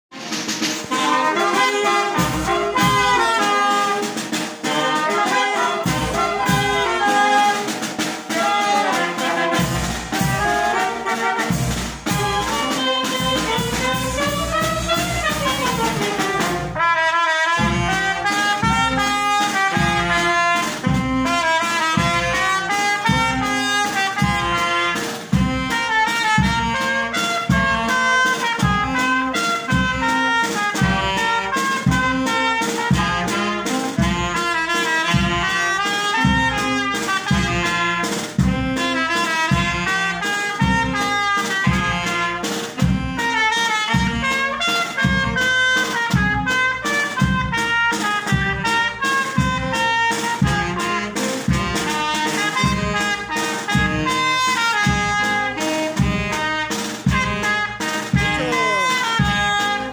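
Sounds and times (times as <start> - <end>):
snare and bass drum beat: 0.1 - 59.9
wind band playing: 0.1 - 59.9.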